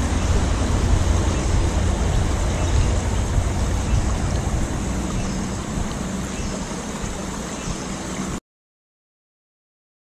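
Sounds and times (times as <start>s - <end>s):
low rumble: 0.0s - 8.3s
river water rushing: 0.0s - 8.4s.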